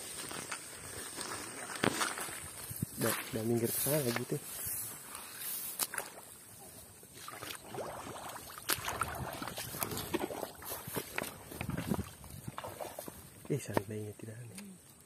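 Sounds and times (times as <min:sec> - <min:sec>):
boots sloshing through mud: 0:00.0 - 0:13.5.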